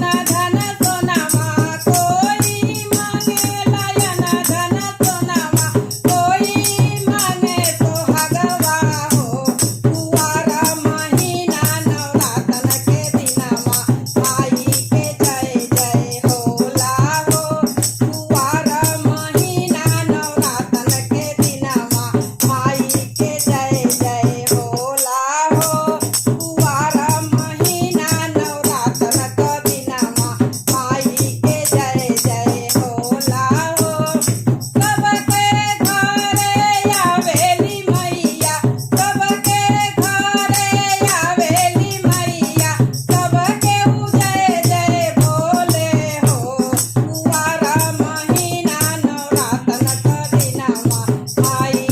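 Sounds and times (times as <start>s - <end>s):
rattling percussion beat: 0.0s - 51.9s
woman singing devotional song: 0.0s - 51.9s.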